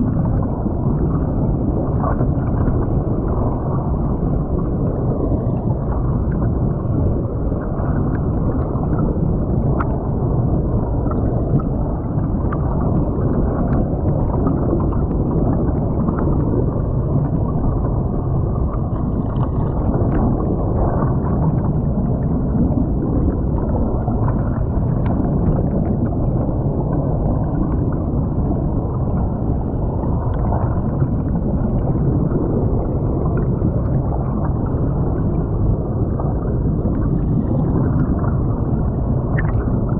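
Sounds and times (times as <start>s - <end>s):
muffled rush of creek water: 0.0s - 39.9s.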